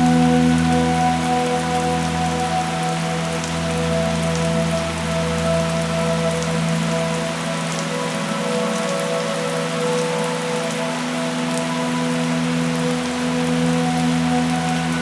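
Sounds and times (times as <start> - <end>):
ambient drone of low notes: 0.0 - 15.0
steady rain falling: 0.0 - 15.0.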